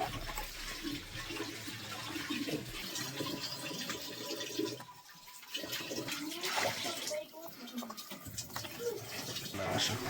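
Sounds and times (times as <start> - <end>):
water splashing and pouring: 0.0 - 10.0.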